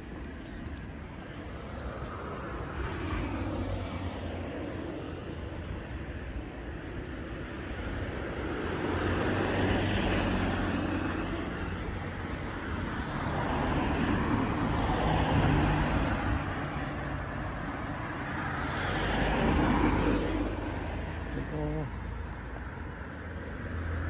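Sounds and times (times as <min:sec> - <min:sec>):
cars passing on wet road: 0:00.0 - 0:24.0.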